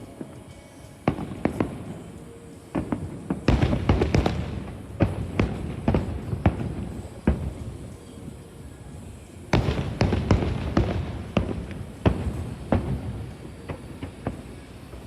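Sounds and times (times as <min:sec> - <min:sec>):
fireworks bangs: 0:01.0 - 0:08.2, 0:09.5 - 0:15.0.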